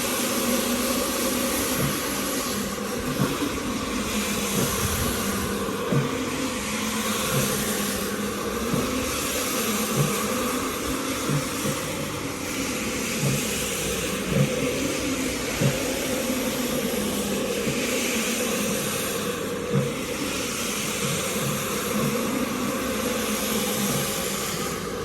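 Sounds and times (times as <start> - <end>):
rug-cleaning machine running: 0.0 - 25.0.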